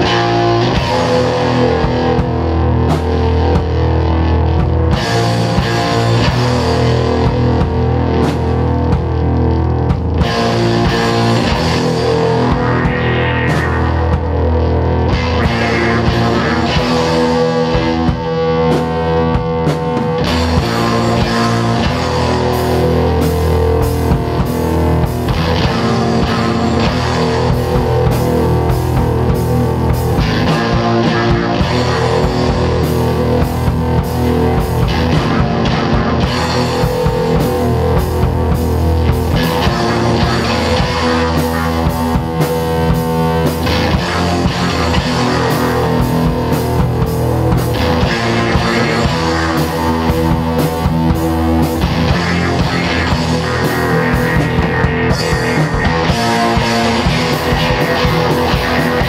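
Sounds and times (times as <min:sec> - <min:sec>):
drum kit beat: 0:00.0 - 0:59.0
heavy rock band playing: 0:00.0 - 0:59.0.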